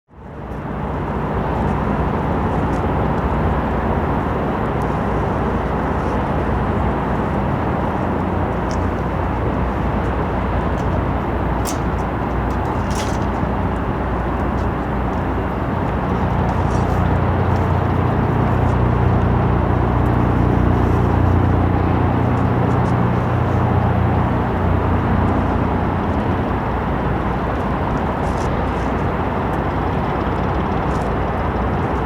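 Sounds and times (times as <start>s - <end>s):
ship engine drone: 0.2s - 32.0s.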